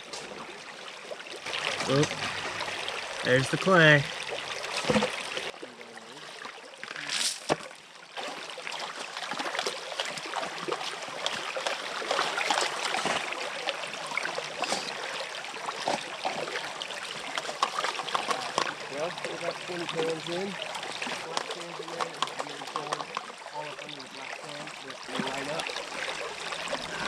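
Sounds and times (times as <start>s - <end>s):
creek water trickling: 0.0s - 27.0s.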